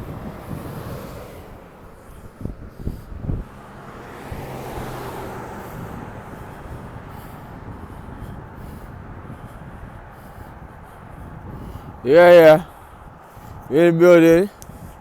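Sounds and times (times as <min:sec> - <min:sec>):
faint low engine hum: 0:00.0 - 0:15.0
passing vehicle traffic: 0:00.0 - 0:15.0.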